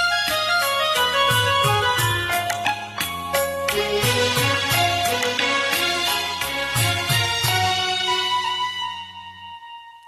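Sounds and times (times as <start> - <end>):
instrumental film song backing track: 0.0 - 10.0.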